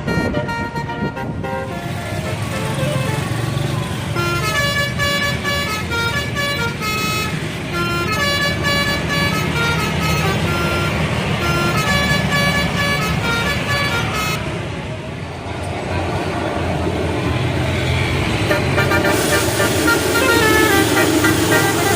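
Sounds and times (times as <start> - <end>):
bus horn playing a tune: 0.0 - 14.9, 18.3 - 21.9
bus engine rumbling: 0.0 - 21.9.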